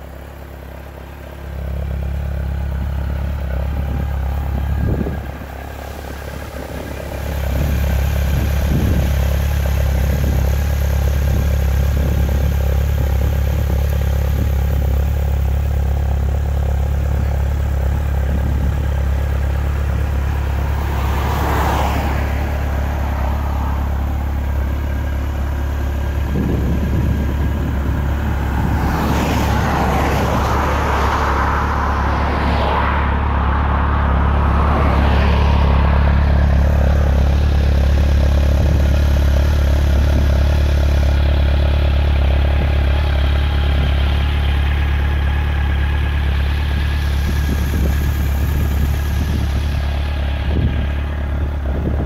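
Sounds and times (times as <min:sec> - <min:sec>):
motorcycle engine idling: 0:00.0 - 0:32.2, 0:35.0 - 0:52.0.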